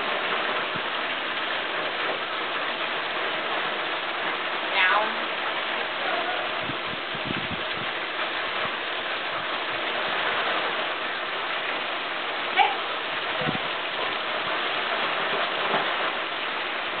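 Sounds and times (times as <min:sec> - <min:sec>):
waterfall splashing into pool: 0:00.0 - 0:17.0.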